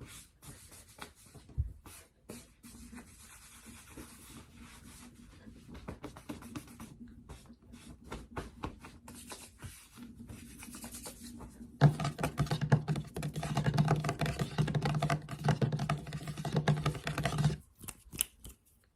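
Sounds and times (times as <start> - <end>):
tapping and scratching close to microphone: 0.0 - 18.7.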